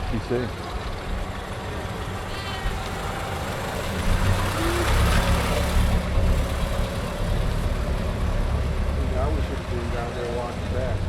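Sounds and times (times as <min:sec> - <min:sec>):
car engine driving by: 0:00.0 - 0:11.0.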